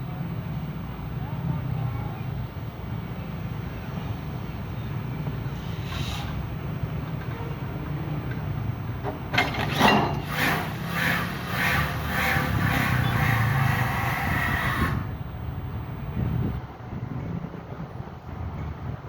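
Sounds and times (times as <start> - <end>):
excavator engine running: 2.4 - 19.0.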